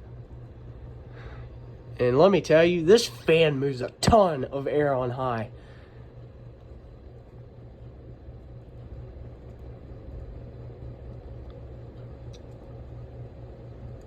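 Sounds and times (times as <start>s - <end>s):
ceiling fan running: 0.0s - 14.0s.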